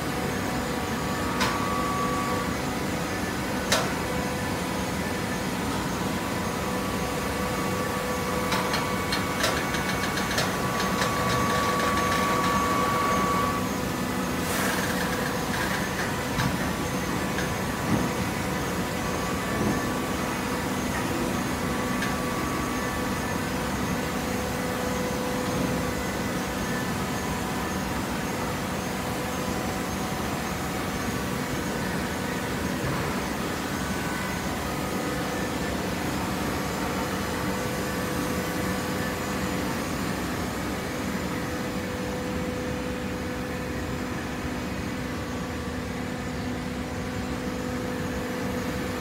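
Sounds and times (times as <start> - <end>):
hydraulic power unit humming: 0.0 - 49.0.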